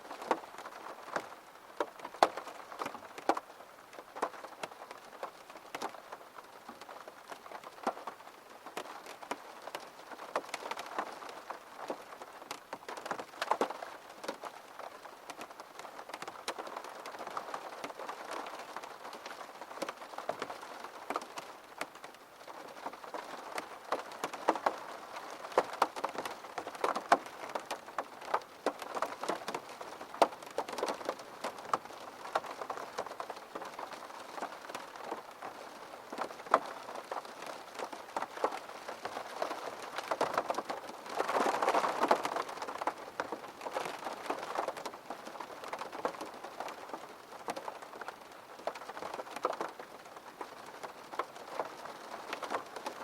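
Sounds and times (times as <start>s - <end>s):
gentle rain on a surface: 0.0s - 53.0s.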